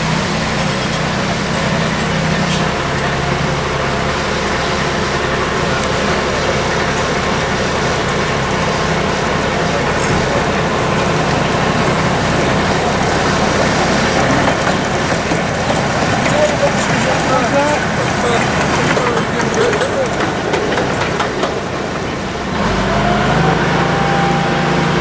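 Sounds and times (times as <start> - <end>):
locomotive running: 0.0 - 25.0.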